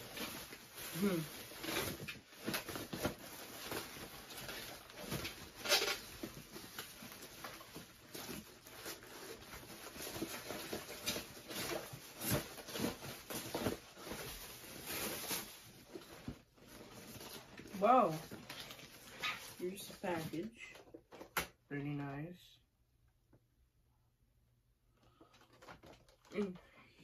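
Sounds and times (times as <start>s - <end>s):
bubble wrap rustling and crinkling: 0.0s - 21.3s, 24.8s - 27.0s.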